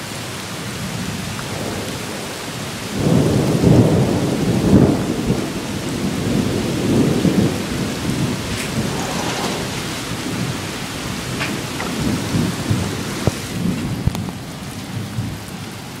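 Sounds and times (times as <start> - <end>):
raindrops tapping: 0.0 - 16.0
steady rain: 0.0 - 16.0
thunder rumbling: 0.8 - 15.5.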